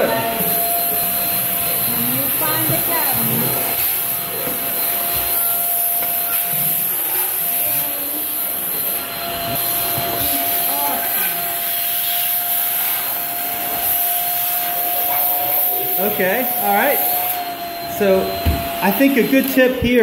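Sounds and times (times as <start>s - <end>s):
handheld vacuum whining: 0.0s - 20.0s.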